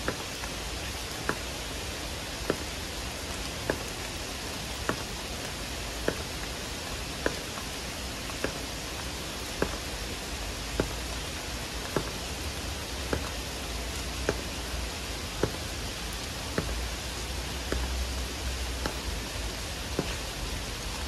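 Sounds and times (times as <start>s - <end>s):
loud water drip: 0.0s - 20.9s
heavy rain falling: 0.0s - 21.0s.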